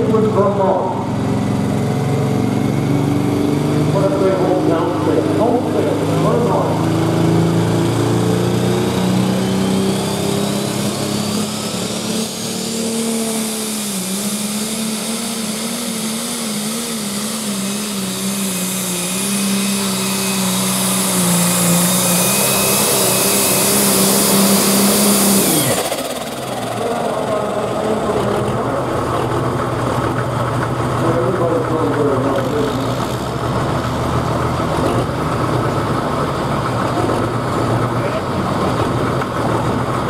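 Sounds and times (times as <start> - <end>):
high turbo whine: 0.0 - 40.0
tractor engine running under load: 0.0 - 40.0.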